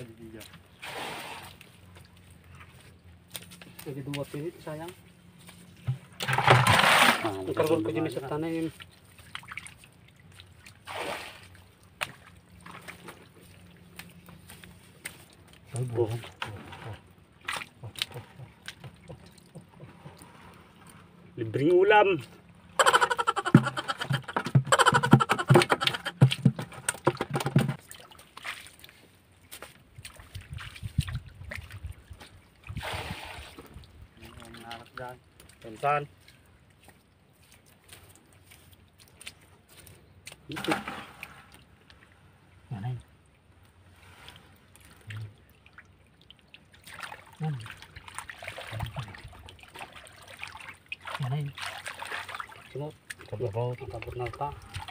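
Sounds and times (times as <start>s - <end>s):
hands splashing in muddy water: 5.3s - 7.9s, 8.6s - 20.8s, 22.2s - 42.1s, 44.0s - 54.9s.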